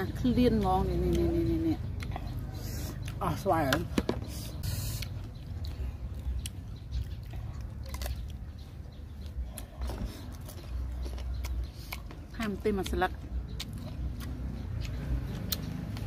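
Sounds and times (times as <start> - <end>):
chewing raw mango: 0.1 - 16.0.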